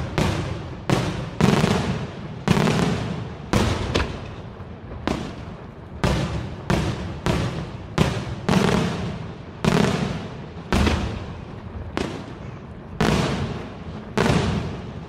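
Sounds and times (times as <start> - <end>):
fireworks bursting with echo: 0.0 - 15.0.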